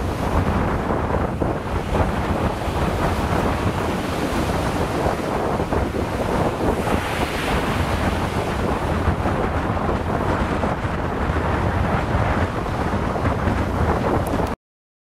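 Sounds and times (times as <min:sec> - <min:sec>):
ocean surf breaking on sand: 0:00.0 - 0:14.6
wind buffeting microphone: 0:00.0 - 0:14.6.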